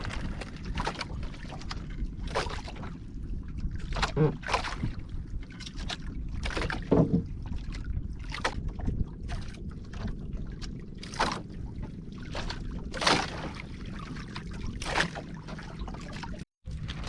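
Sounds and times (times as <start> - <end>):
water splashing at paddle boat: 0.0 - 17.0
wind rumble on microphone: 0.0 - 17.0.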